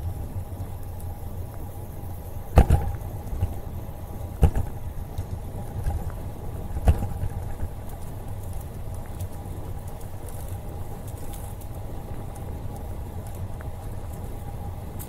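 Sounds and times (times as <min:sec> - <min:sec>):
bicycle tyres on asphalt: 0:00.0 - 0:15.0
wind rumble on microphone: 0:00.0 - 0:15.0.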